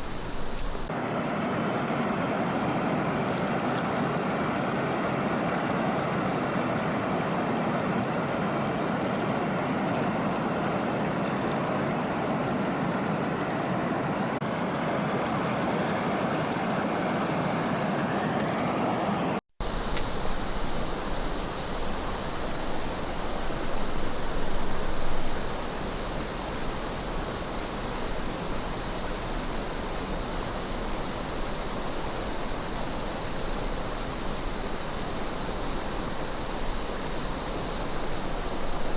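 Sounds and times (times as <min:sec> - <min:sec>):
flowing river water: 0:00.0 - 0:38.9.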